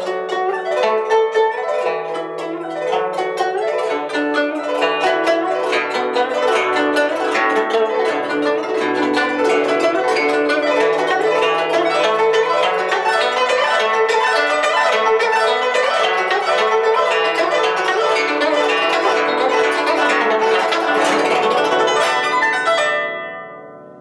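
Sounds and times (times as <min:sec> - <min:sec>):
plucked zither notes: 0:00.0 - 0:24.0.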